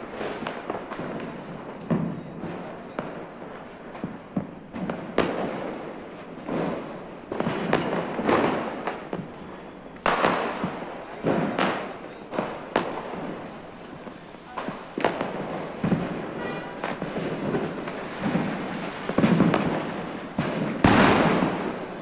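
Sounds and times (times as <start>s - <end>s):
firecrackers bursting: 0.0s - 22.0s.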